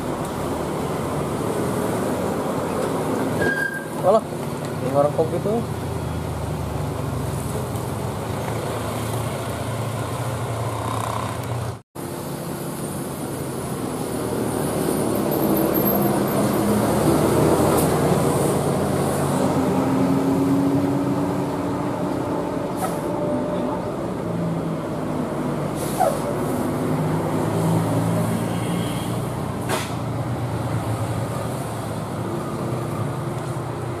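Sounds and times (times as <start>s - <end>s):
bus engine and road noise: 0.0s - 34.0s.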